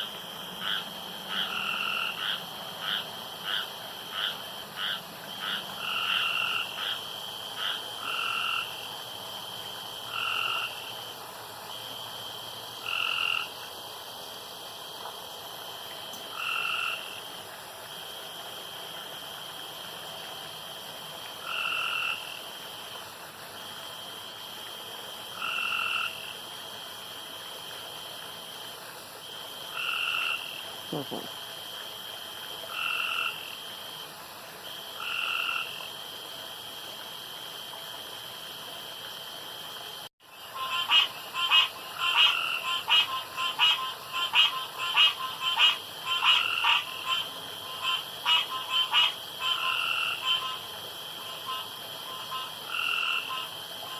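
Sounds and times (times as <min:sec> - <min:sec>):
frogs croaking: 0:00.0 - 0:53.9.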